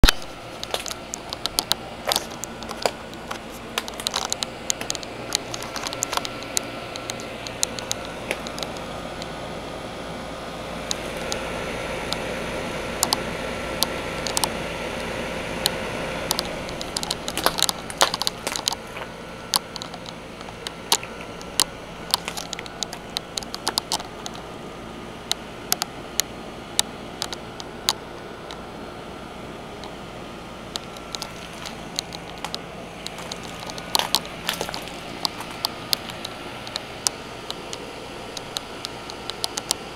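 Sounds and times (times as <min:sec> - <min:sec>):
sharp clicks and crackles: 0:00.0 - 0:09.4, 0:10.8 - 0:11.5, 0:13.0 - 0:24.5, 0:25.3 - 0:28.7, 0:30.7 - 0:39.9
air conditioner fan and compressor hum: 0:00.0 - 0:39.9.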